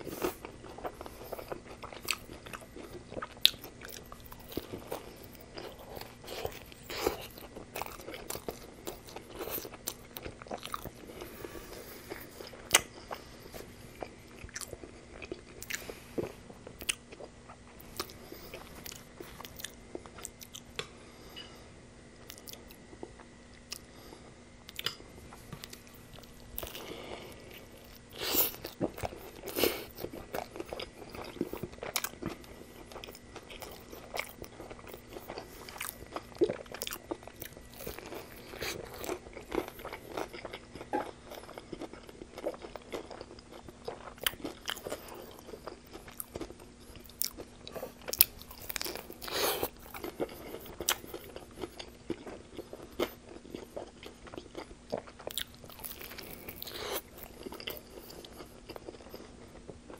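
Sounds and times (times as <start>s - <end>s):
crunchy biting and chewing: 0.0s - 20.8s, 24.7s - 59.9s
faint steady hum: 0.0s - 59.9s.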